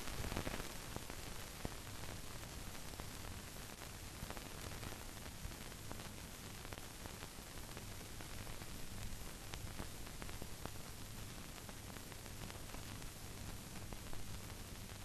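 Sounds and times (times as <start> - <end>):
film soundtrack hiss: 0.0 - 15.0
low mains hum: 0.0 - 15.0.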